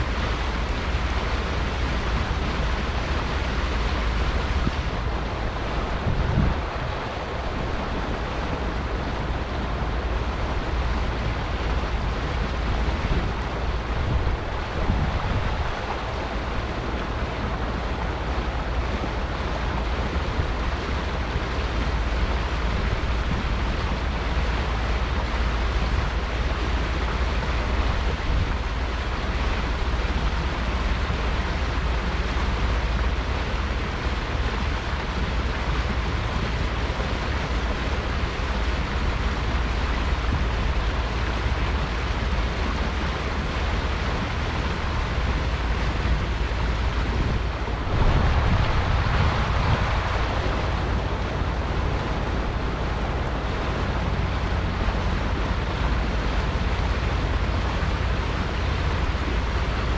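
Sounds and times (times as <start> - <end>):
water rushing past boat: 0.0 - 59.9
wind rumble on microphone: 0.0 - 59.9.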